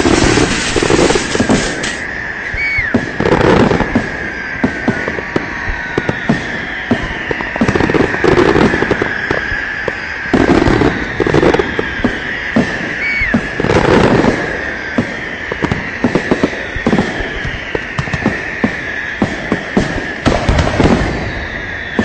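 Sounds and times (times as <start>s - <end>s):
firecrackers banging and crackling: 0.0s - 22.0s
long falling whistle: 0.0s - 22.0s
thin steady whistle: 0.0s - 22.0s.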